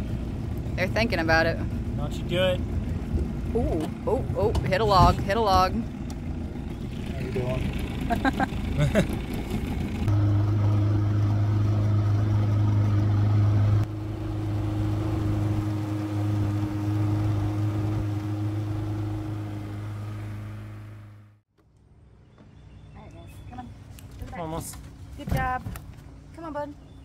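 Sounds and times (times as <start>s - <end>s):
outboard motor humming: 0.0s - 27.0s.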